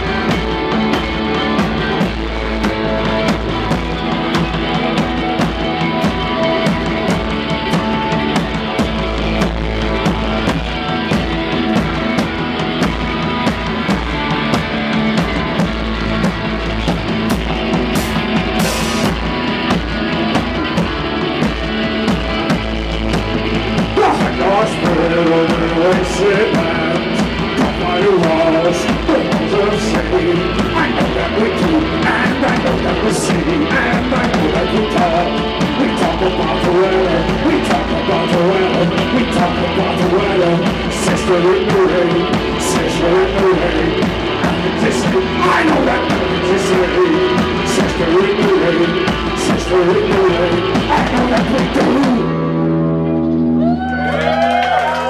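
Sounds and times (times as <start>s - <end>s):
drum kit with cymbal hits: 0.0s - 52.6s
electric bass: 0.0s - 55.0s
electric guitar: 0.0s - 55.0s.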